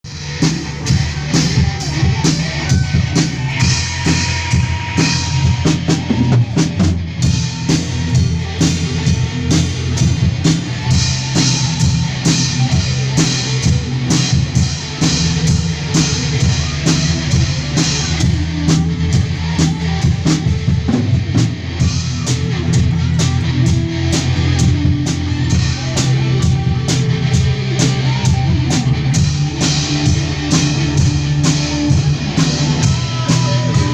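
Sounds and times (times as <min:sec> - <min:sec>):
drum and cymbal hits: 0:00.0 - 0:33.9
rock music: 0:00.0 - 0:33.9.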